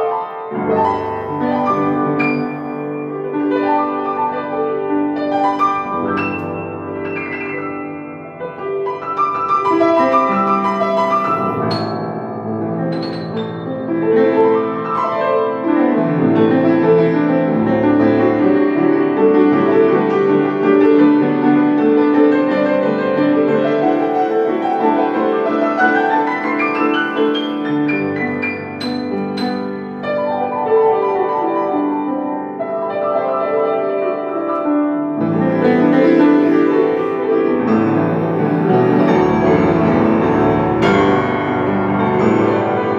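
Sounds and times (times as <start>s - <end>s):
solo piano with fast runs: 0.0s - 42.9s.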